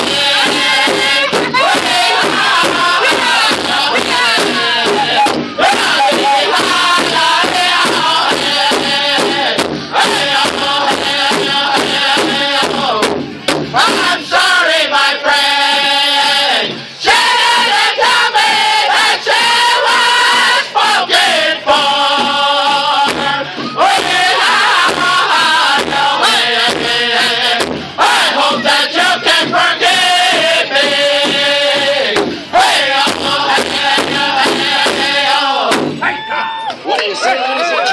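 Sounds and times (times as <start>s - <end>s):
men singing in unison: 0.0s - 35.9s
steady drum beat: 0.0s - 36.2s.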